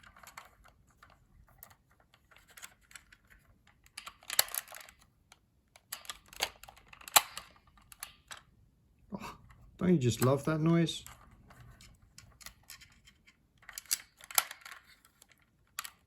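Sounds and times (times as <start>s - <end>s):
plastic toy parts clicking: 0.0s - 8.5s, 9.4s - 16.0s.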